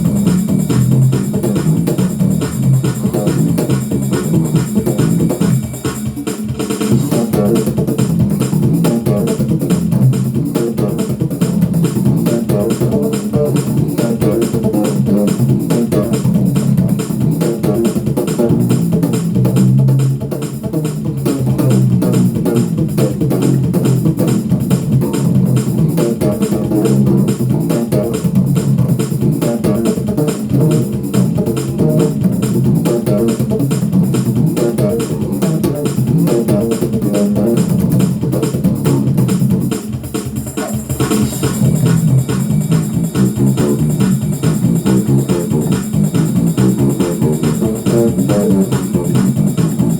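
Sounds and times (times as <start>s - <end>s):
bass guitar plucked notes: 0.0s - 5.7s, 6.9s - 39.7s, 41.5s - 49.9s
steady beat: 0.0s - 49.9s.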